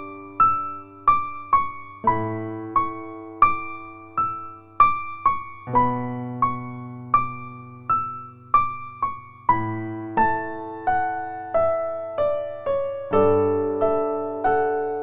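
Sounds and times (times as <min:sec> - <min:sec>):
gentle keyboard music: 0:00.0 - 0:15.0.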